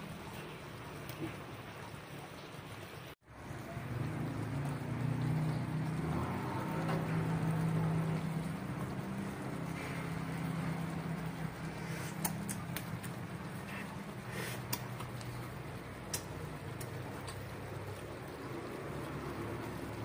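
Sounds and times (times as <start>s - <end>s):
food simmering and bubbling in a wok: 0.0s - 20.0s.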